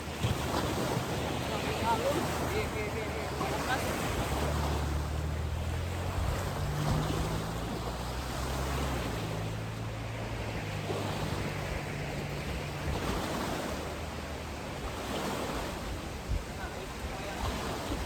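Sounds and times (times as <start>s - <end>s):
wind blowing over microphone: 0.0s - 18.0s.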